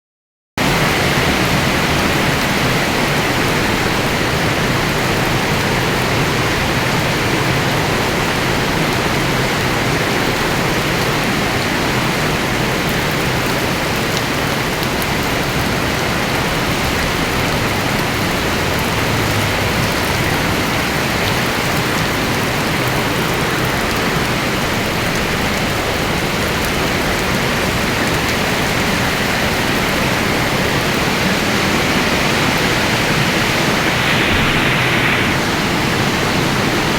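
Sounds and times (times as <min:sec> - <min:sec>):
heavy rain drumming: 0:00.6 - 0:36.9.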